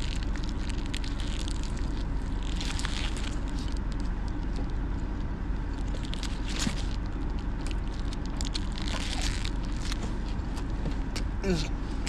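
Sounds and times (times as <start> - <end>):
foil wrapper crinkling: 0.0 - 10.8
person chewing food: 0.0 - 11.3
low rumble: 0.0 - 12.0.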